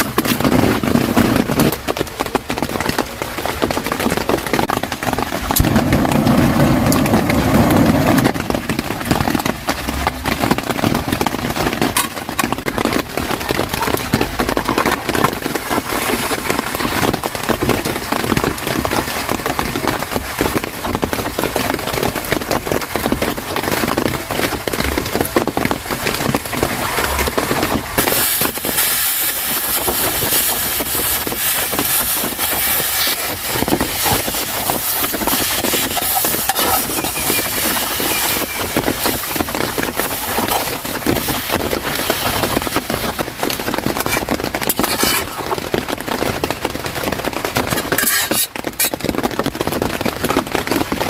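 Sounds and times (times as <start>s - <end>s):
cabbage frying in oil: 0.0s - 51.0s.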